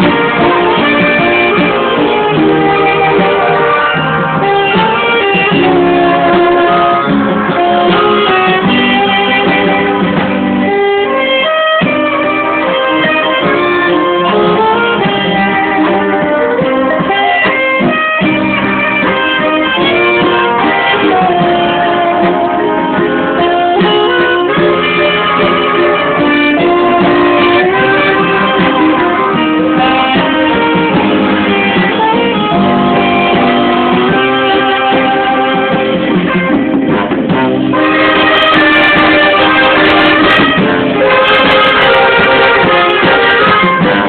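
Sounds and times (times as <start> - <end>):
band music with plucked strings: 0.0 - 44.0.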